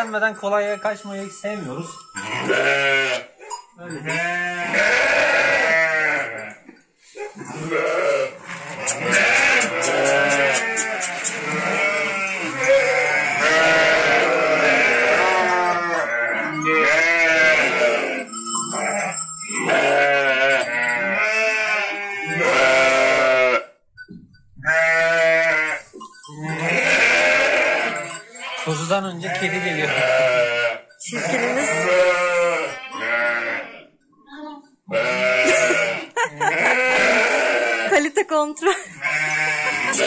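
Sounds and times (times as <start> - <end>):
sheep and lambs bleating: 1.9 - 23.8, 24.6 - 34.0, 34.9 - 40.0.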